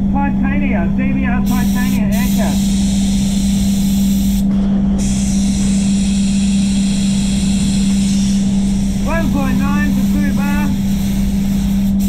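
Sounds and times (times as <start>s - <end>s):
spray booth low hum: 0.0s - 12.0s
spray gun hissing: 1.5s - 12.0s.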